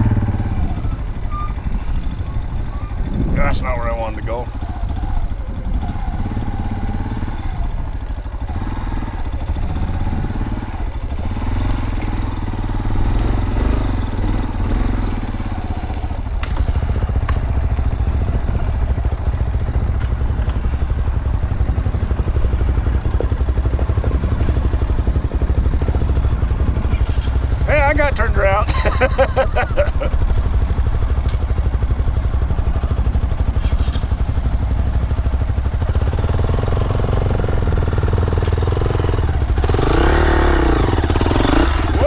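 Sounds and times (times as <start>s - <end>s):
dirt bike engine running: 0.0s - 42.0s.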